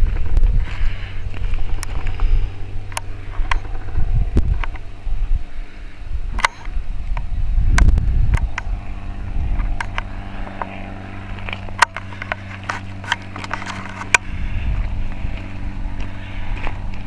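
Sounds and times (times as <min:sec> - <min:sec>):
sharp clicks and crunches: 0:00.0 - 0:04.9, 0:06.3 - 0:08.7, 0:09.5 - 0:17.0
machine humming: 0:00.0 - 0:17.0.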